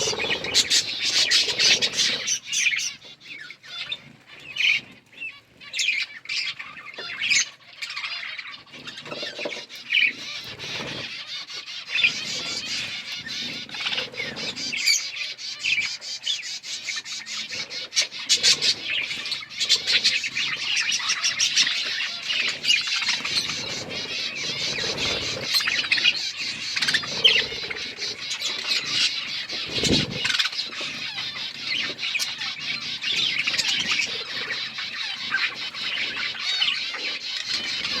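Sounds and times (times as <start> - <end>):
parrots chirping and twittering: 0.0 - 38.0.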